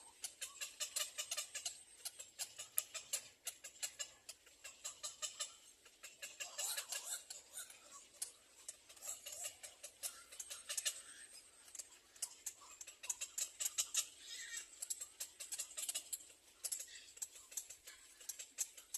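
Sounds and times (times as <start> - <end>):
small birds chirping faintly: 0.0 - 18.9.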